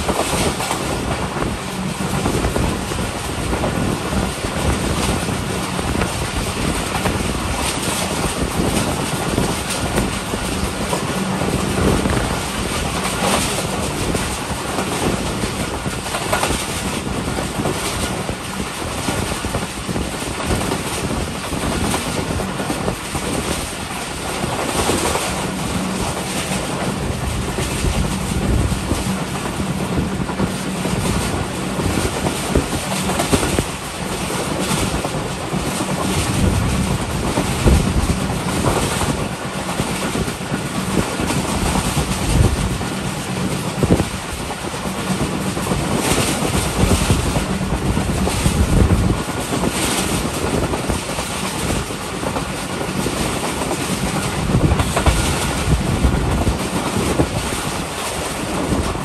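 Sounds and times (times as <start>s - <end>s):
train rumble and rush: 0.0s - 59.0s
wheels clattering over rail joints: 0.0s - 59.0s.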